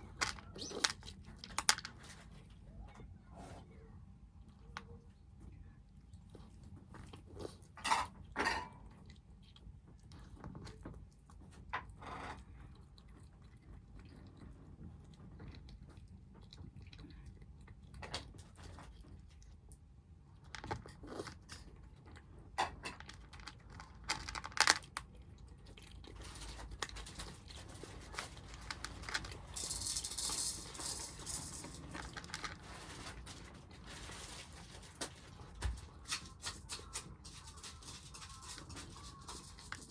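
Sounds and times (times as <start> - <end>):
kittens eating: 0.0 - 39.9.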